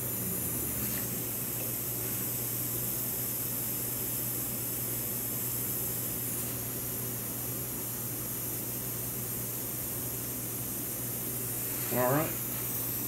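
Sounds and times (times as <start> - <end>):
low steady hum: 0.0 - 13.0
steady hiss: 0.0 - 13.0.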